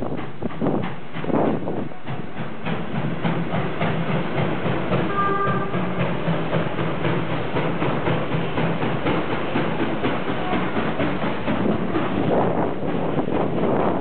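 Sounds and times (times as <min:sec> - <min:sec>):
rhythmic clatter: 0:00.0 - 0:14.0
steam locomotive puffing: 0:00.0 - 0:14.0.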